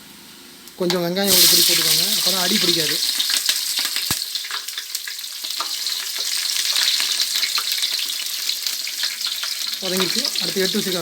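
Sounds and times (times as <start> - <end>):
spices and onion sizzling in oil: 0.6 - 11.0.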